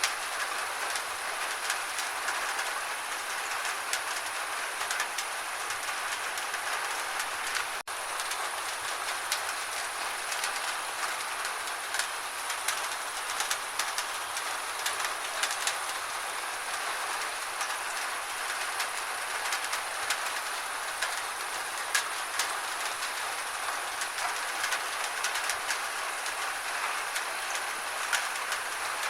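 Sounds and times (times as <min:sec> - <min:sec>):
gentle rain hiss: 0:00.0 - 0:29.0
raindrops ticking: 0:00.0 - 0:29.0.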